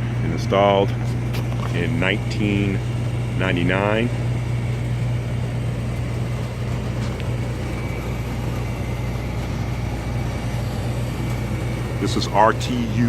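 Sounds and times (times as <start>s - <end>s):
fan rushing: 0.0s - 13.0s
hvac unit humming: 0.0s - 13.0s.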